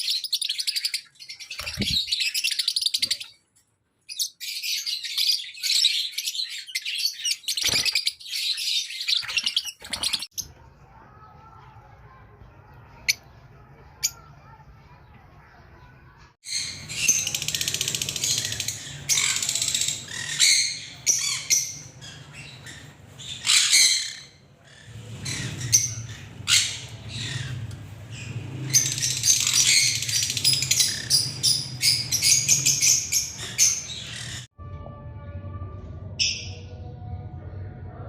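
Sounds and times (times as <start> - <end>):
lovebirds chattering and squawking: 0.0 - 3.5, 4.1 - 10.6, 12.6 - 34.5.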